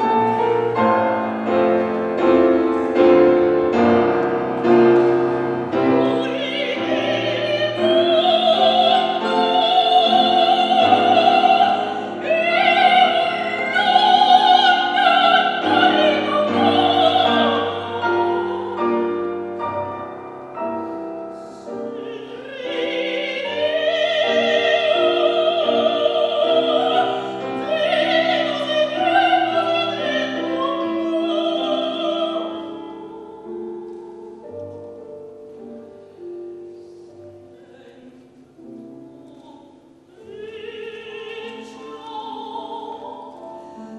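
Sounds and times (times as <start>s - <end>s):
piano accompaniment: 0.0s - 43.9s
operatic singing: 3.8s - 20.0s, 21.2s - 34.7s, 37.6s - 43.9s.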